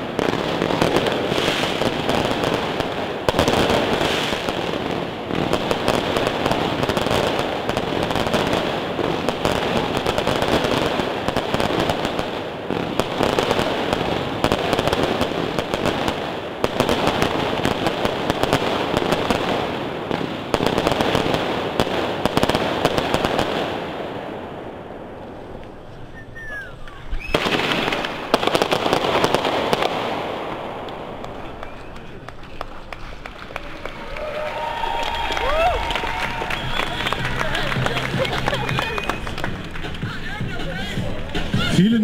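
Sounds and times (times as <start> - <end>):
fireworks bangs and crackle: 0.0 - 42.0.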